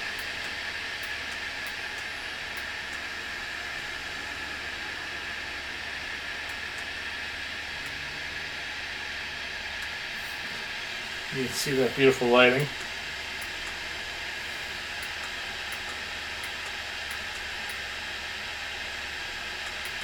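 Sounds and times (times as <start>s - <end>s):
faint motor hum: 0.0s - 20.0s
fan rushing air: 0.0s - 20.0s.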